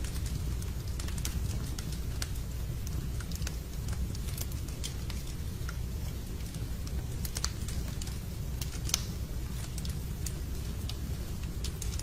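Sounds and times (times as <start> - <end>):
log fire crackling: 0.0 - 12.0
low rumble of flames: 0.0 - 12.0.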